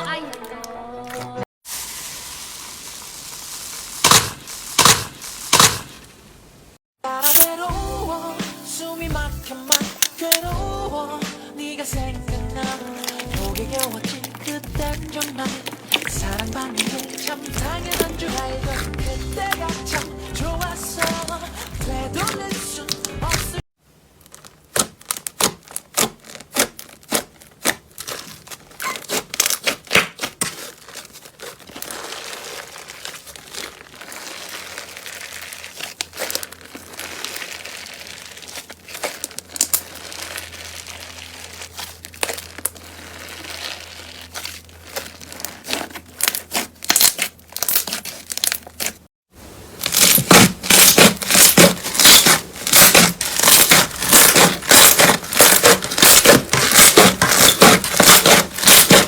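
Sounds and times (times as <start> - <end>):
slime crackling and popping: 1.7 - 6.2, 12.6 - 49.1, 49.7 - 59.0.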